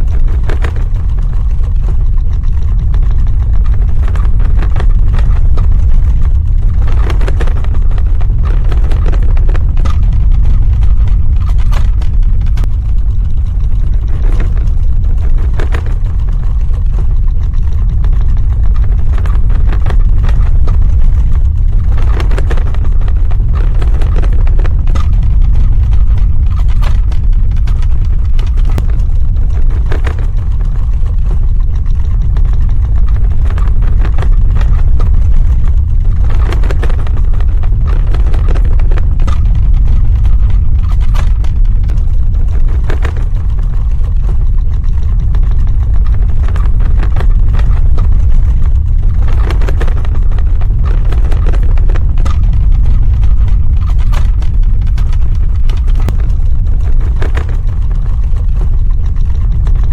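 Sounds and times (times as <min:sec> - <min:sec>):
crackling and clatter: 0:00.0 - 0:59.9
deep earthquake rumble: 0:00.0 - 0:59.9.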